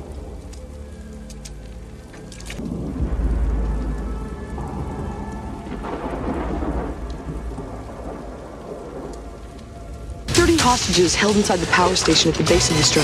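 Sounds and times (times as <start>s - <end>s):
heavy rain on wet ground: 0.0s - 13.0s.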